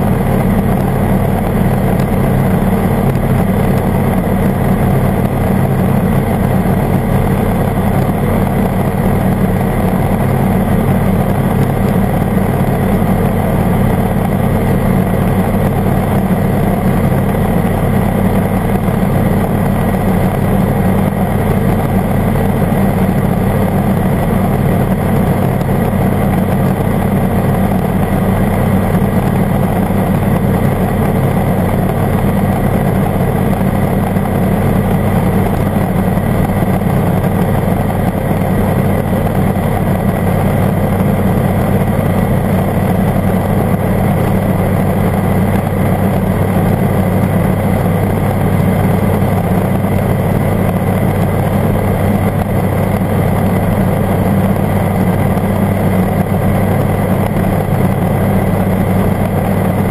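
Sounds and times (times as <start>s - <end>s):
ultralight aircraft engine and propeller: 0.0s - 59.9s.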